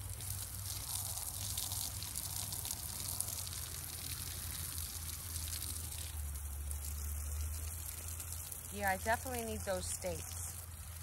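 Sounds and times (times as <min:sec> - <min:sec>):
garden hose spraying water: 0:00.0 - 0:11.0
low steady hum: 0:00.0 - 0:11.0.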